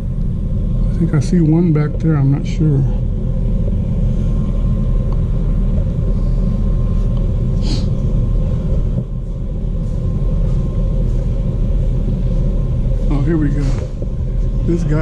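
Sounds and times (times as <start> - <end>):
low machinery rumble: 0.0 - 15.0
thin steady hum: 0.0 - 15.0.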